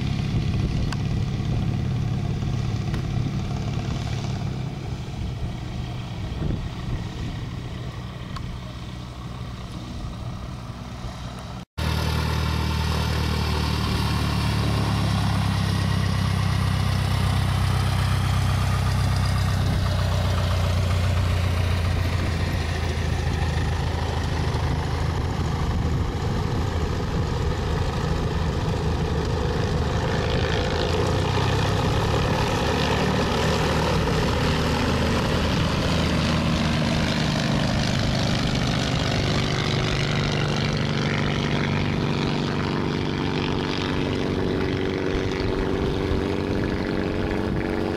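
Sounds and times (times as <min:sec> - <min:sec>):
light aircraft engine and propeller: 0:00.0 - 0:47.9.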